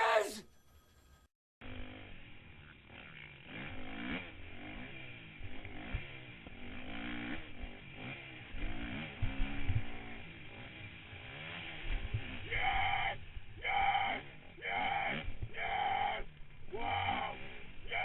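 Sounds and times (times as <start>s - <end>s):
motocross bike engine revving: 1.6s - 18.0s.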